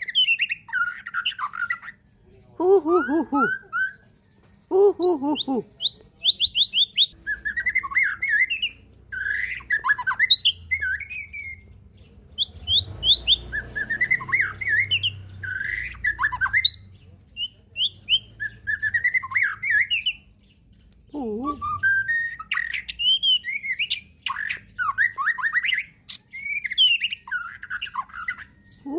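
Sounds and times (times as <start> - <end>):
songbird singing: 0.0 - 28.9.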